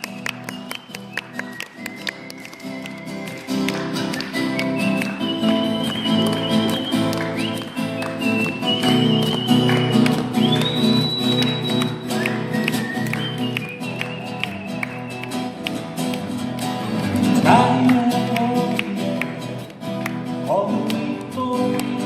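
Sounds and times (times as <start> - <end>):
acoustic guitars strumming: 0.0 - 22.0.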